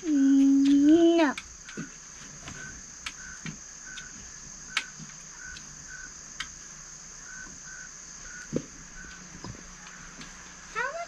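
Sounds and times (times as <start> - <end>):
insects trilling: 0.0 - 11.0
low insect chirp: 0.0 - 11.0.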